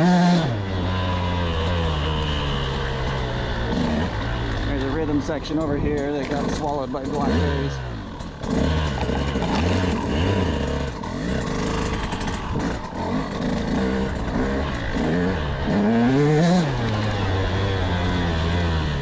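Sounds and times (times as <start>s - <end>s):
two-stroke motocross engine revving: 0.0s - 19.0s.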